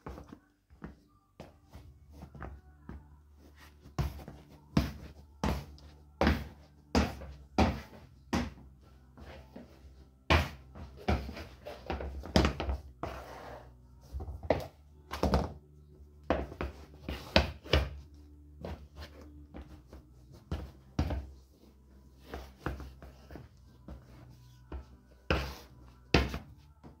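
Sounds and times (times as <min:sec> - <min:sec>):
shoe scuffs: 0:00.0 - 0:08.6, 0:09.2 - 0:15.6, 0:16.3 - 0:27.0.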